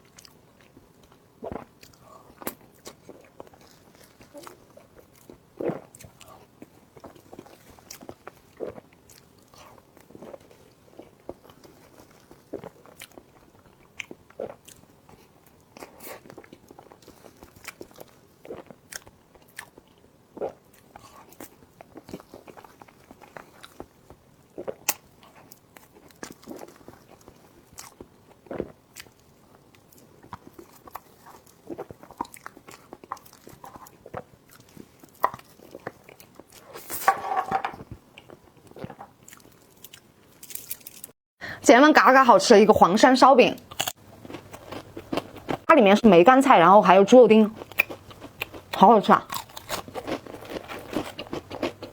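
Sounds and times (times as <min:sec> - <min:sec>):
person chewing crunchy food: 0:00.0 - 0:37.2, 0:37.8 - 0:41.1, 0:43.6 - 0:45.7, 0:47.4 - 0:51.9.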